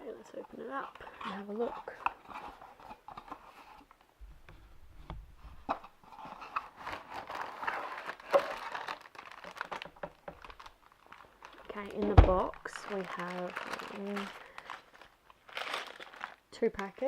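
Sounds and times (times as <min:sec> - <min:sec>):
cardboard rustling: 0:00.4 - 0:16.4.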